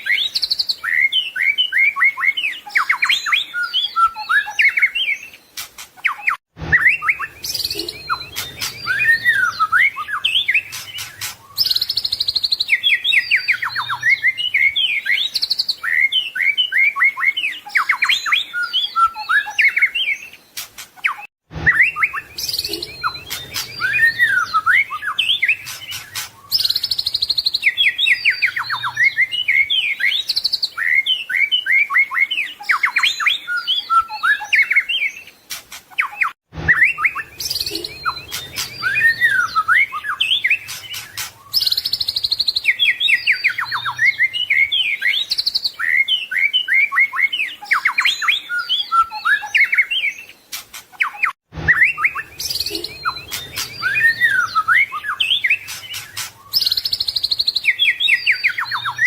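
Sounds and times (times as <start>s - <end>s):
songbird singing varied song: 0.0s - 59.0s.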